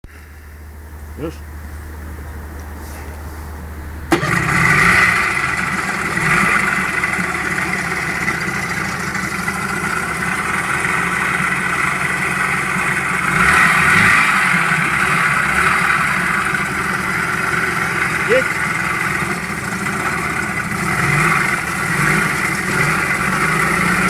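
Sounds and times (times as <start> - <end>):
outboard motor running: 3.8 - 24.0.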